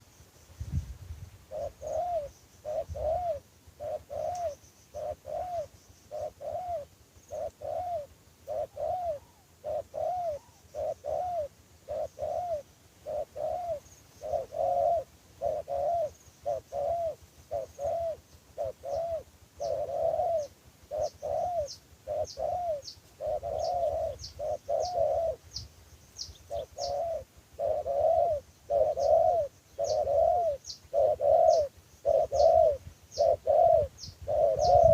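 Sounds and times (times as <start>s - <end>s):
dove cooing: 1.5s - 25.6s, 26.3s - 34.9s.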